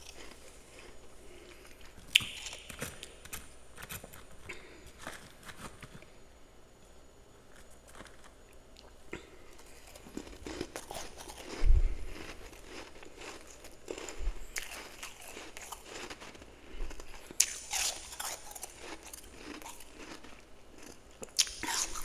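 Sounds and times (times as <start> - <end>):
frost crunching while chewed: 0.0 - 6.2, 7.5 - 22.0.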